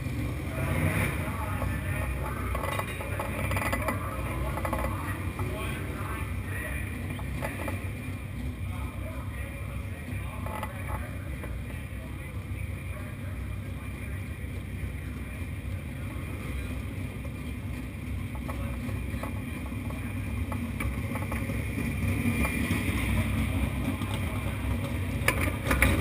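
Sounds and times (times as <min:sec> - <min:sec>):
race car engines rumbling: 0:00.0 - 0:26.0.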